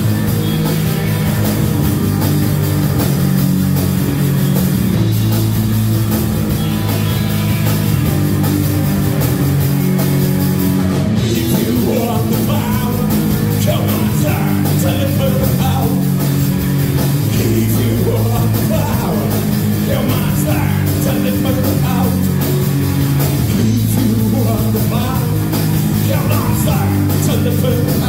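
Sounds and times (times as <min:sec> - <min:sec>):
drum kit: 0:00.0 - 0:28.0
electric bass: 0:00.0 - 0:28.0
electric guitar: 0:00.0 - 0:28.0.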